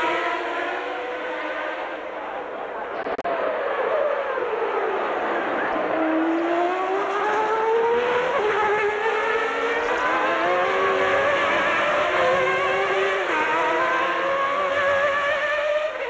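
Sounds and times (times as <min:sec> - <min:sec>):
race cars accelerating: 0:00.0 - 0:16.0.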